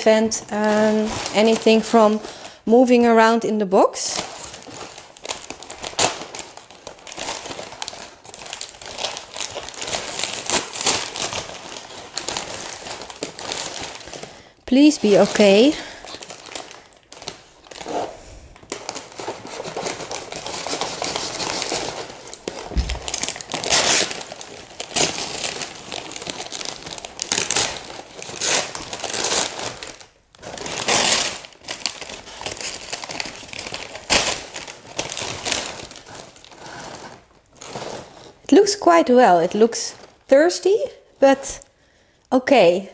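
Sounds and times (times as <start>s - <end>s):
packing paper crinkling: 0.0s - 3.4s, 4.0s - 40.4s.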